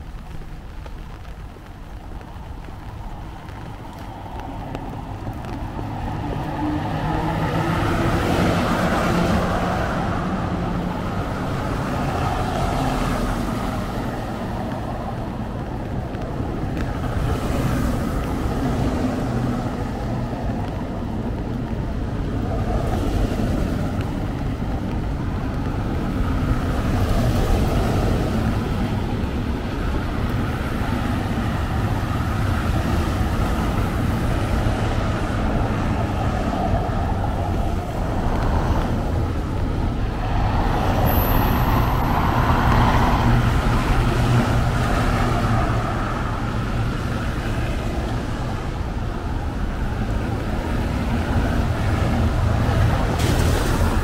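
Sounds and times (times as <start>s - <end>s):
cars and trucks passing: 0.0s - 54.0s.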